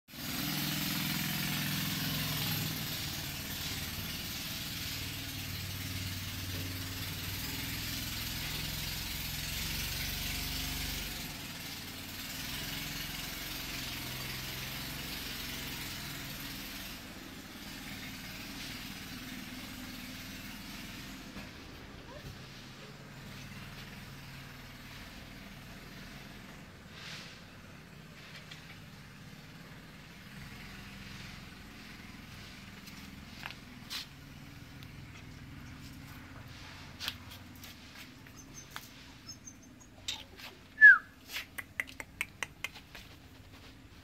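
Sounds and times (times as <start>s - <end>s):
engine idling: 0.1s - 44.0s.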